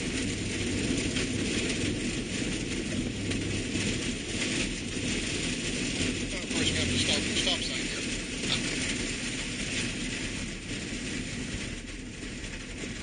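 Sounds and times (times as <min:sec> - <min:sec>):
engine low hum: 0:00.0 - 0:11.0
tyres on snowy road: 0:00.0 - 0:13.0.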